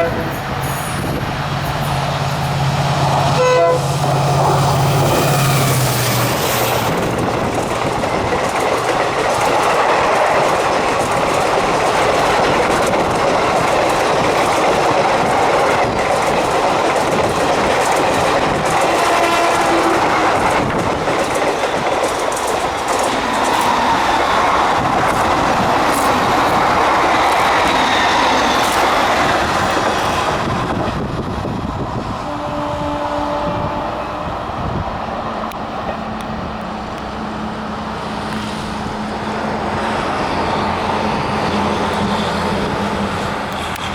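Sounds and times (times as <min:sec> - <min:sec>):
train rushing past: 0:00.0 - 0:43.9.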